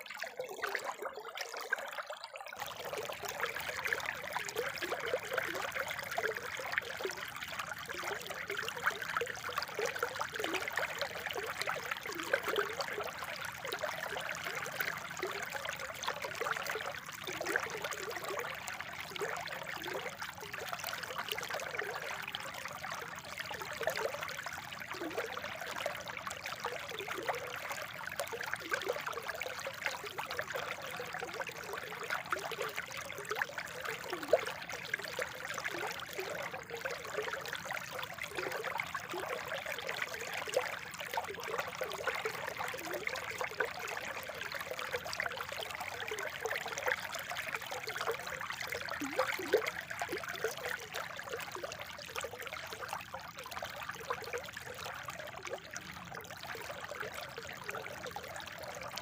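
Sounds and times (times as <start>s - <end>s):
spring water trickling: 0.0s - 57.8s
water bubbling gurgles: 0.0s - 59.0s.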